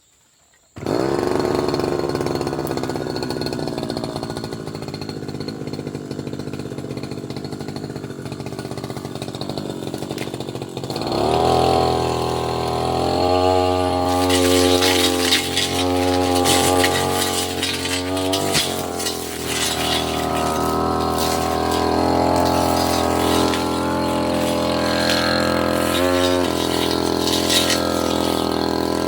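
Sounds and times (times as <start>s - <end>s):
brush cutter engine revving: 0.8s - 29.0s
rattling crackling noise: 2.4s - 29.0s.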